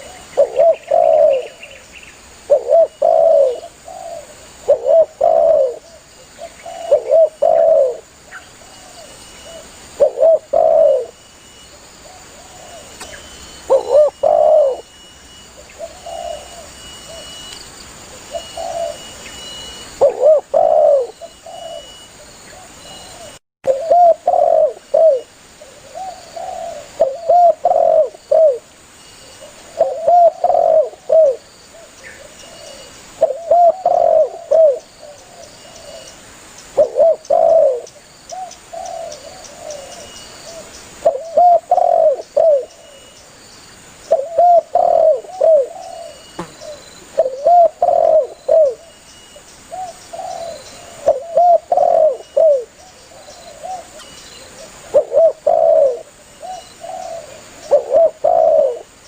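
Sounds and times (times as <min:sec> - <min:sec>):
dove cooing: 0:00.0 - 0:01.8, 0:02.4 - 0:11.2, 0:12.0 - 0:14.9, 0:15.6 - 0:17.4, 0:18.1 - 0:19.2, 0:20.0 - 0:28.6, 0:29.4 - 0:36.1, 0:36.8 - 0:43.0, 0:44.1 - 0:49.0, 0:49.7 - 0:59.0
faint high chirping: 0:00.0 - 0:59.0.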